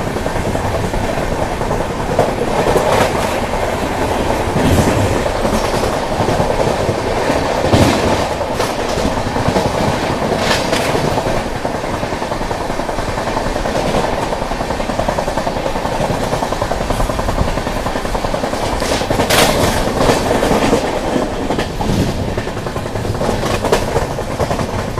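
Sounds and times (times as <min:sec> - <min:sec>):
train wheels rumbling on rail: 0:00.0 - 0:24.9
wheels clacking over rail joints: 0:00.0 - 0:24.9.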